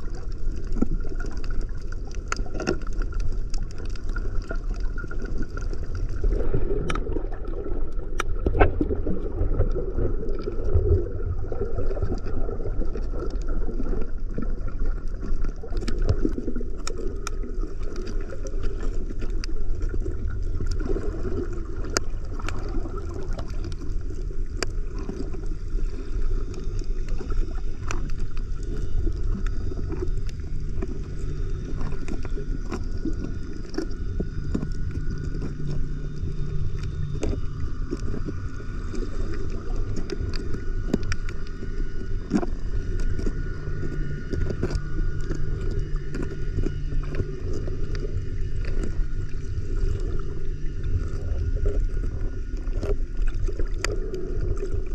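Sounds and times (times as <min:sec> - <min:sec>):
sharp clicks and crackles: 0:00.0 - 0:10.9, 0:11.8 - 0:54.9
muffled underwater rumble: 0:00.0 - 0:54.9.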